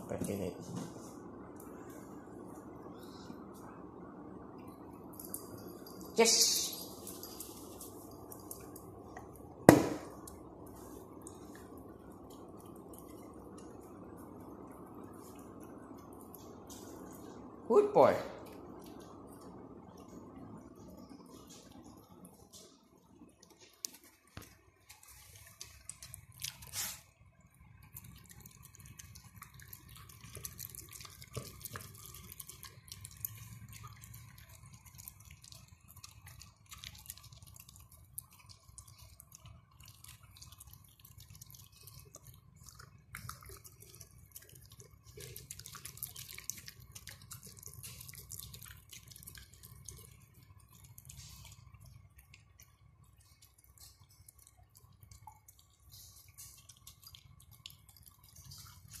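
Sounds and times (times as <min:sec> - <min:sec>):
dog eating wet smacking: 0:06.8 - 0:59.0.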